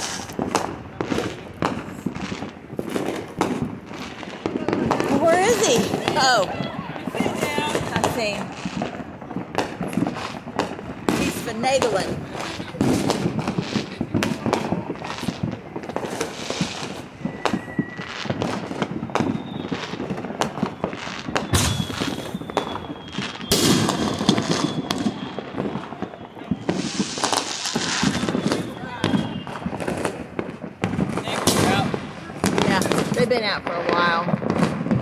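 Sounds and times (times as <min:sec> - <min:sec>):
fireworks bangs and pops: 0:00.0 - 0:35.0.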